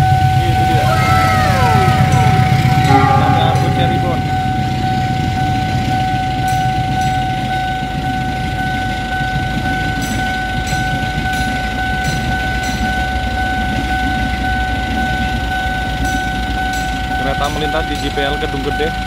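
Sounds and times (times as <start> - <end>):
crossing alarm electronic tone: 0.0 - 19.0
train rumbling past: 0.0 - 19.0.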